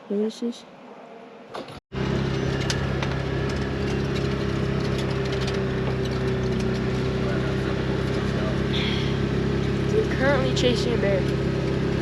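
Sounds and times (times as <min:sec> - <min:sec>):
utility vehicle engine running: 0:01.6 - 0:12.0.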